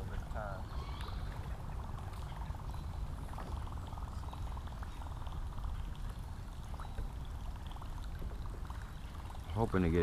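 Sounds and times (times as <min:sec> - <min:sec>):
paddle water splashes and drips: 0:00.0 - 0:10.0.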